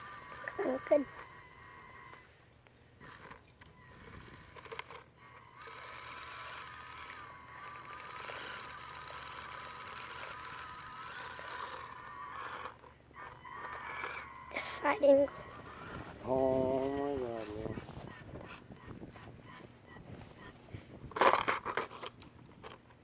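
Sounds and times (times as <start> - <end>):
small electric motor whining: 0.0 - 2.4, 3.0 - 22.8.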